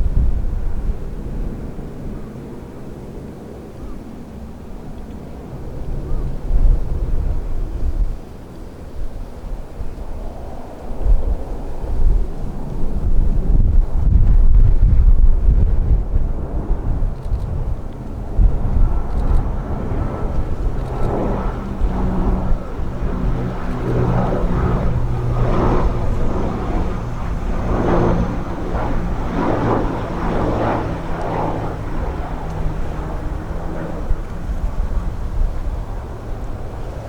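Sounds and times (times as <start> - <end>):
wind buffeting microphone: 0.0 - 2.6, 5.3 - 37.0
airliner engines roaring: 0.0 - 37.0.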